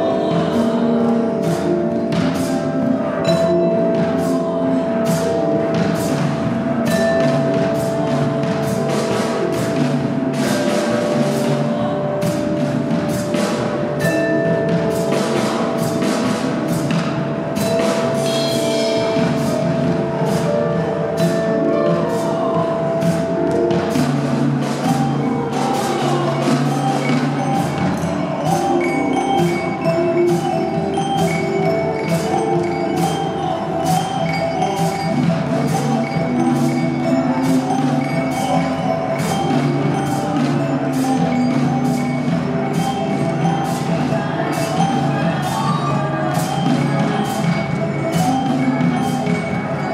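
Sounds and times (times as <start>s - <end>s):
harp: 0.0s - 49.9s
vibraphone strikes: 0.0s - 49.9s
voices holding notes: 0.0s - 49.9s.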